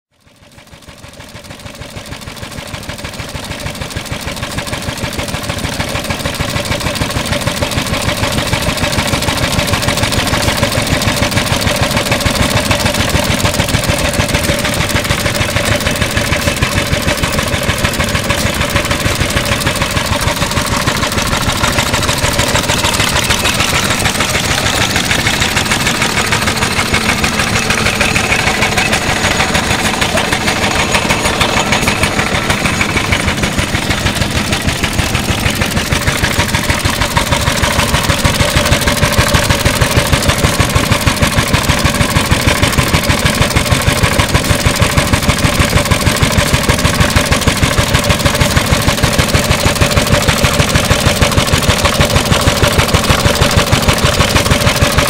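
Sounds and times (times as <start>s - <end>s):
oil engine running: 0.1s - 55.0s.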